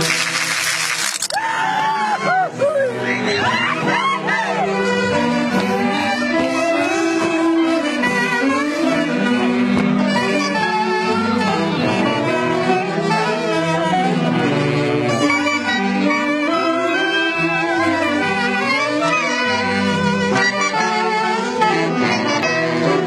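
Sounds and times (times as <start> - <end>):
wind band playing a dance tune: 0.0 - 1.4, 3.8 - 23.0.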